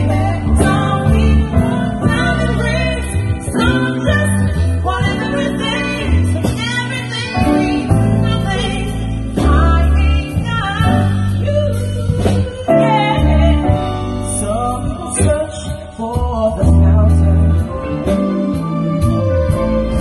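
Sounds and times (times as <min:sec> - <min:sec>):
woman singing: 0:00.0 - 0:19.1
deep sustained bass notes: 0:00.0 - 0:20.0
electric guitar: 0:00.0 - 0:20.0
keyboard: 0:00.0 - 0:20.0.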